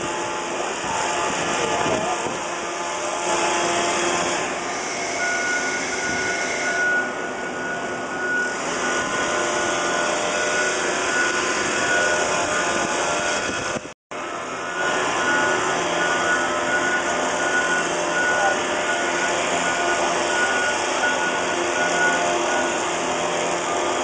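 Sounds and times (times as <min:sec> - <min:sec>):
high-pitched whine: 0:00.0 - 0:24.0
machinery drone: 0:00.0 - 0:24.0.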